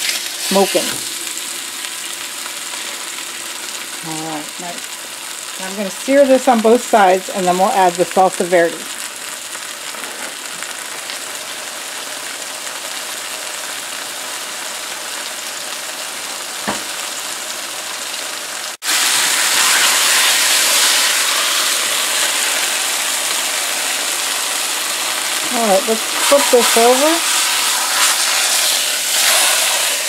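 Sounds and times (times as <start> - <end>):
meat sizzling in oil: 0.0 - 30.0.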